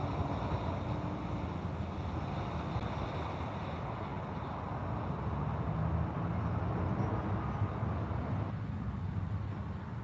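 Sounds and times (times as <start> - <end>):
outdoor background noise: 0.0 - 10.0
passing vehicle engine rumble: 0.0 - 10.0.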